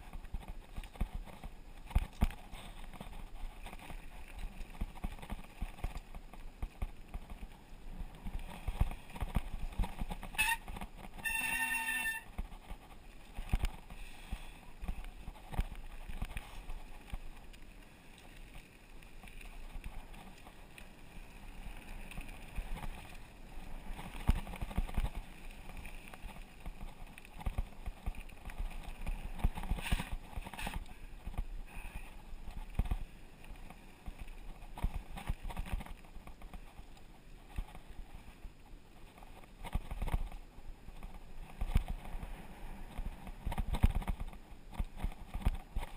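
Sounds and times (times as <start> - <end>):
bike knocks and rattles: 0.0 - 17.5, 21.8 - 36.8, 39.1 - 45.9
low rumble of tyres and wind: 0.0 - 45.9.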